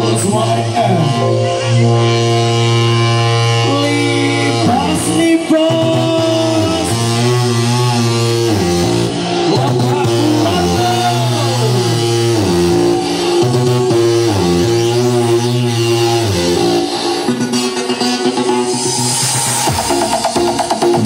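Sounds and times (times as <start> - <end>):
loud music with heavy bass: 0.0 - 21.0.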